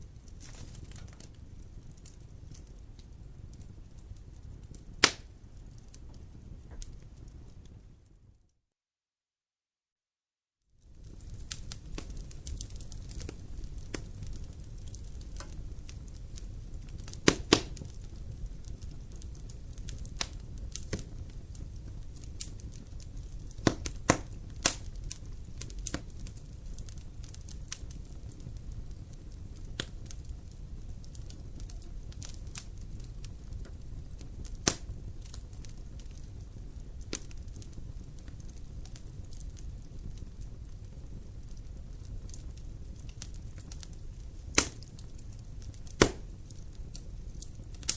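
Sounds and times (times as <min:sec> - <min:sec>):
wood fire crackling and popping: 0:00.0 - 0:08.4, 0:10.8 - 0:47.9.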